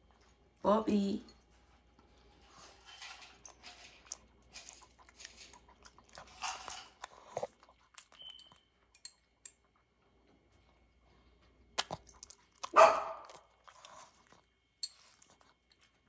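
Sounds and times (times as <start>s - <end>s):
puppy crunching food: 2.0s - 16.0s.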